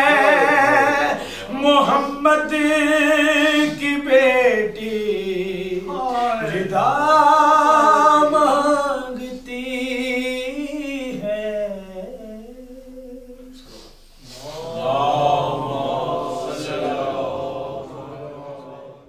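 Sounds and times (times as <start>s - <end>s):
man singing unaccompanied: 0.0s - 17.2s.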